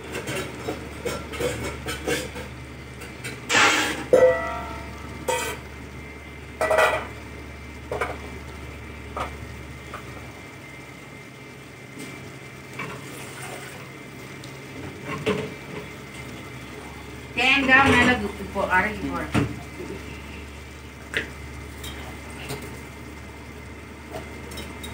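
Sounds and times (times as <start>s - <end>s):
gravy simmering hiss: 0.0s - 24.9s.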